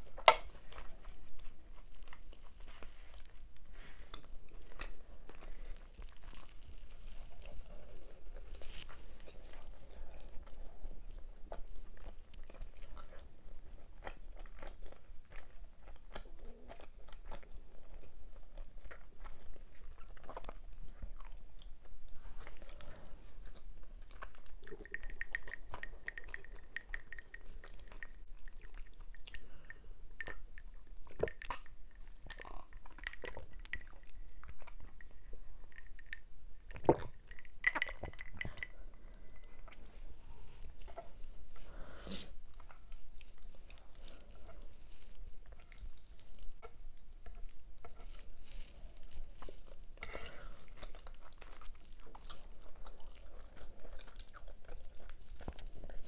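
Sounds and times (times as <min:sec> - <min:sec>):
close chewing and mouth sounds: 0:00.0 - 0:56.0.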